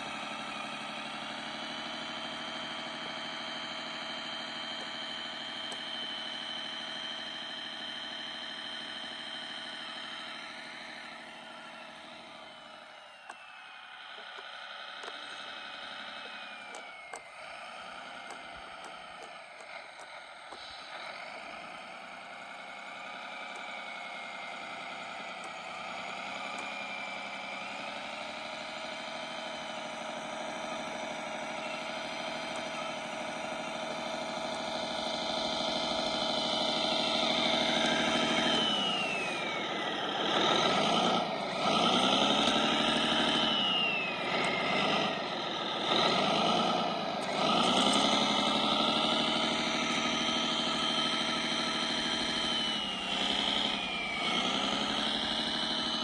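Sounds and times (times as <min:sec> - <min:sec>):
toy vehicle electric motor whining: 0:00.0 - 0:56.0.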